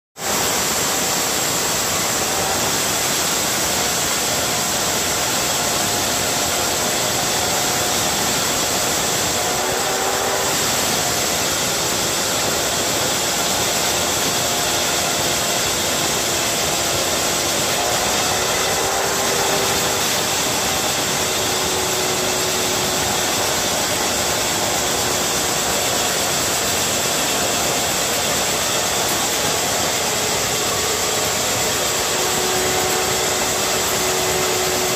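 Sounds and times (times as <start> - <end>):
core drill grinding into wall: 0.2 - 34.9.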